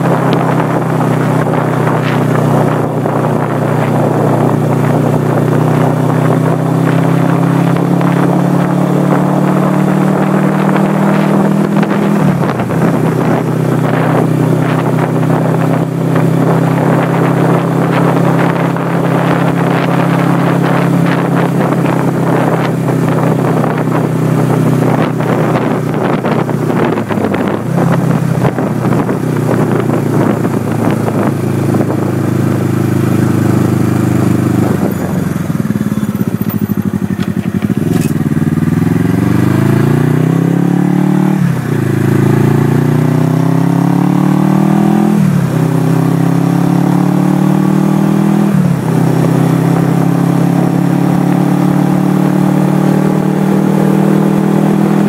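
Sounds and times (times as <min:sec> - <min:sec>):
motorcycle engine at road speed: 0:00.0 - 0:55.0
wind rushing over microphone: 0:00.0 - 0:55.0.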